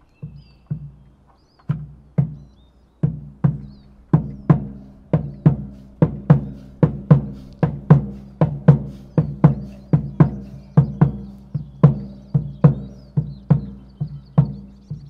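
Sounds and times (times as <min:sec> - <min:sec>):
hand drum beating: 0:01.7 - 0:15.0.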